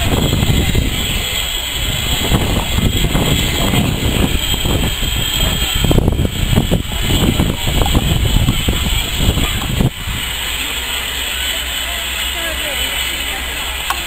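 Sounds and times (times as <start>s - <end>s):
steam engine rumbling: 0.0s - 14.0s.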